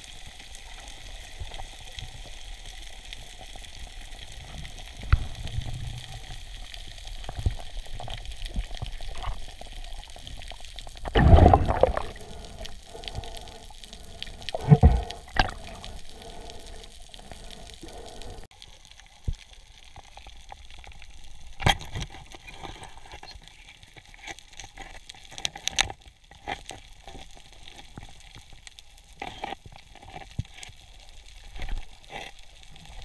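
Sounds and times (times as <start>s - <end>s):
underwater hiss with crackling: 0.0s - 33.0s.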